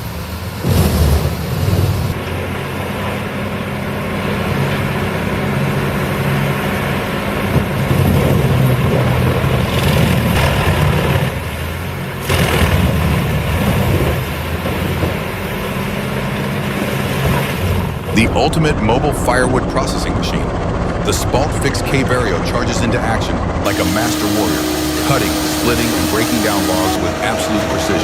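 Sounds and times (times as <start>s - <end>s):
heavy machine engine running: 0.0s - 28.0s.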